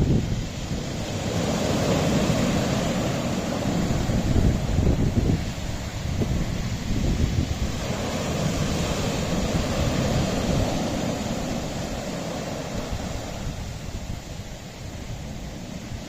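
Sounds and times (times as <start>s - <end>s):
surf washing against rocks: 0.0s - 16.0s
wind rumble on microphone: 0.0s - 16.0s.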